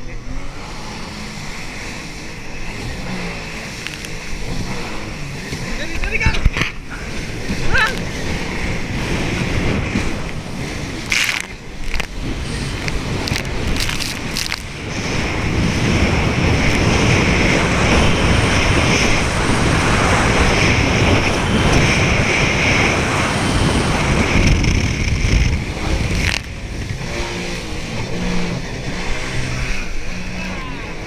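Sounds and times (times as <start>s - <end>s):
jet ski engine: 0.0s - 31.0s
loud rushing noise: 0.0s - 31.0s.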